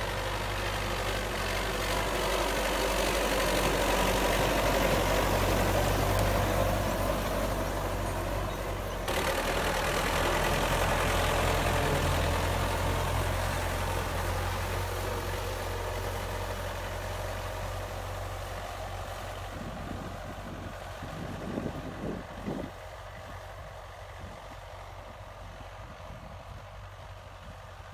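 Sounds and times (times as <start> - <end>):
tractor diesel engine under load: 0.0 - 27.9.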